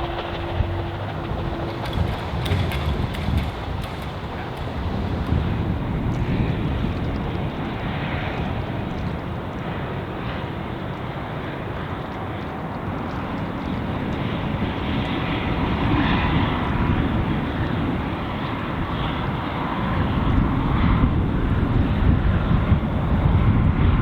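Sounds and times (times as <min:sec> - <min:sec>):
diesel train rumbling past: 0:00.0 - 0:24.0.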